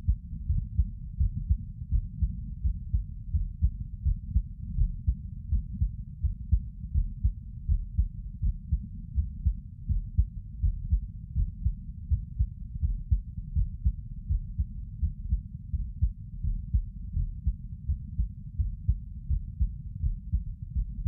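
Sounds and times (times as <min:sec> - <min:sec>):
heartbeat thumps: 0:00.0 - 0:21.0.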